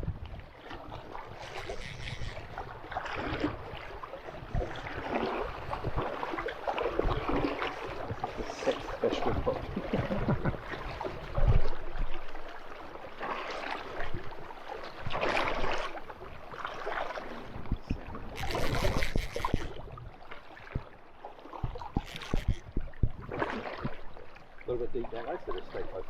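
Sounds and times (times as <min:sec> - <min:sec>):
river water sloshing and splashing: 0:00.0 - 0:26.0.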